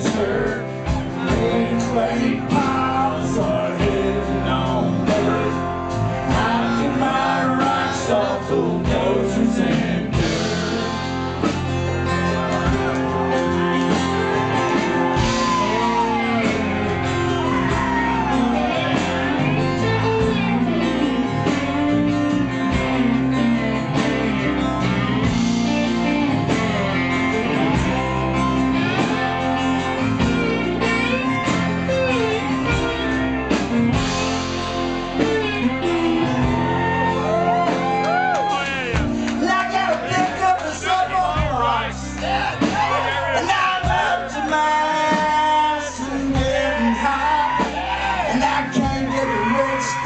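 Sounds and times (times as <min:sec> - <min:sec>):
lead guitar bending notes: 0:00.0 - 0:44.4
live rock band playing: 0:00.0 - 0:50.0.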